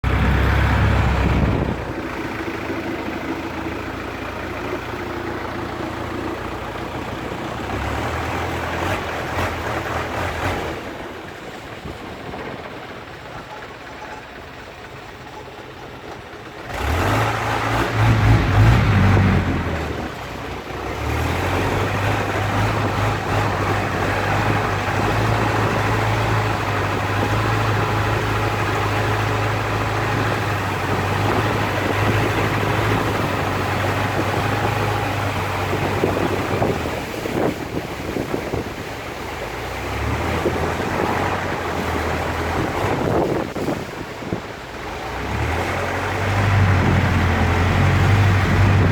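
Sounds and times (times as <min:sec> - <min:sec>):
boat engine revving and idling: 0:00.0 - 0:48.9.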